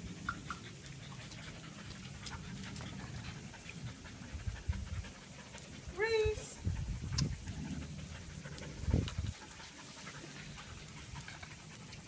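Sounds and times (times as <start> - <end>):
puppies panting: 0.0 - 12.0.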